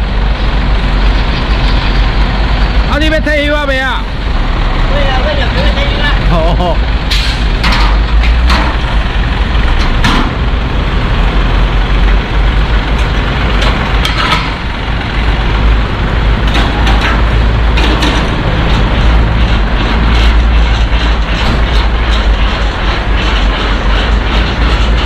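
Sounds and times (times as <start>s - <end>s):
truck diesel engine rumbling: 0.0s - 25.0s.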